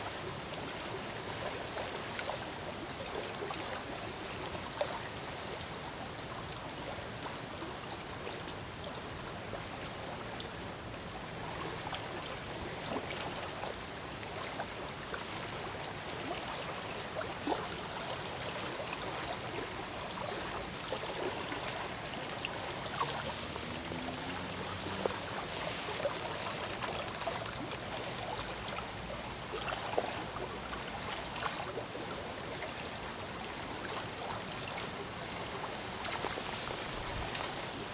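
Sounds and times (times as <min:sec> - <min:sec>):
waves lapping and splashing: 0:00.0 - 0:37.9.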